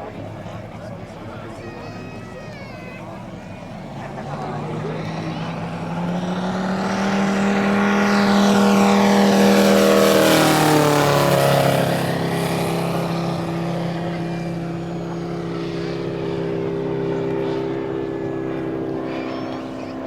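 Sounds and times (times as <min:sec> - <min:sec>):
model airplane engine flying past: 0:00.0 - 0:20.0.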